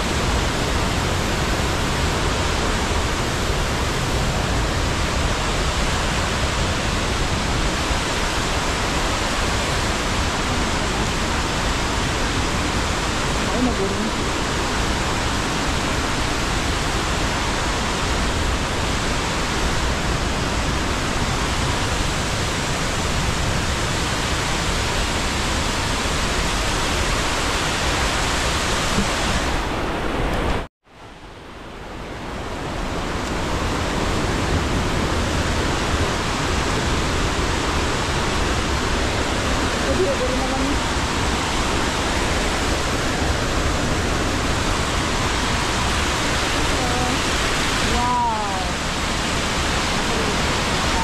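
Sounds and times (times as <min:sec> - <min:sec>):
waterfall rushing water: 0:00.0 - 0:51.0.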